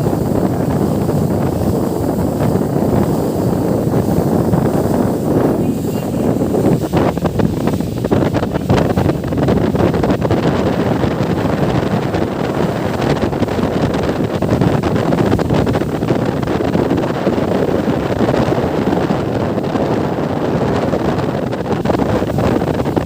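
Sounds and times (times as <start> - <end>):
rush of moving boat: 0.0 - 23.0
wind buffeting microphone: 0.0 - 23.0.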